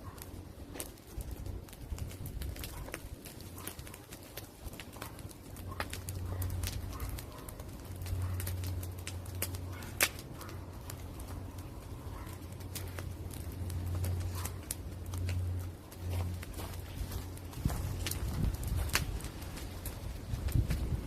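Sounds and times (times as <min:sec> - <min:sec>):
fire snapping and popping: 0:00.0 - 0:21.0
wood fire crackling: 0:00.0 - 0:21.0.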